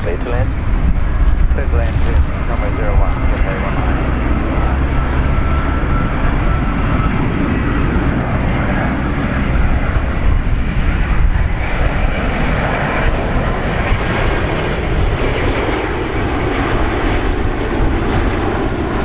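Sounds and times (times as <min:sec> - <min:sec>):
jet rumble: 0:00.0 - 0:19.0.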